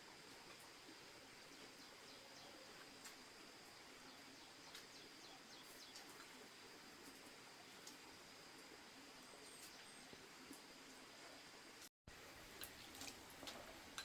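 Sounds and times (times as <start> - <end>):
soft ticks and chirps: 0.0 - 14.0.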